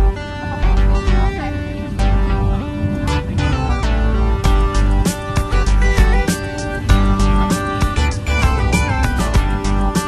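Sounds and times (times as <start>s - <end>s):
upbeat song with guitar and drums: 0.0s - 10.0s.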